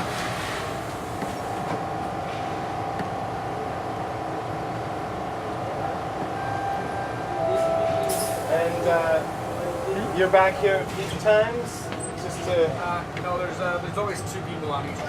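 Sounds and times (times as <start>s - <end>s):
train whine: 0.0s - 14.1s
subway train wheels rumbling: 0.0s - 15.0s.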